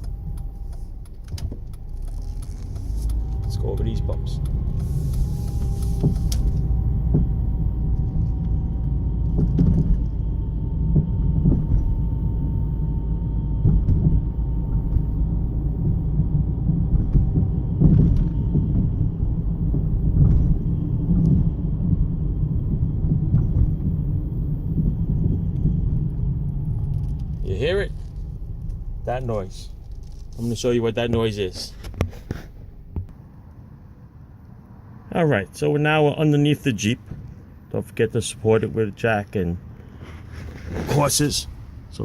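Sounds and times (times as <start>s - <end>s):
in-cabin road rumble: 0.0s - 42.0s.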